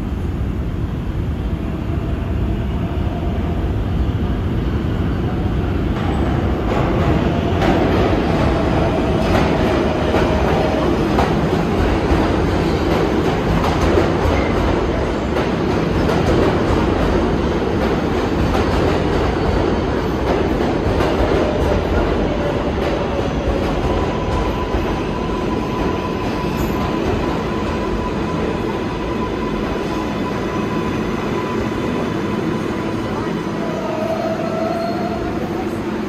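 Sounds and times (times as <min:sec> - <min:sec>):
subway train wheels rumbling: 0:00.0 - 0:36.0.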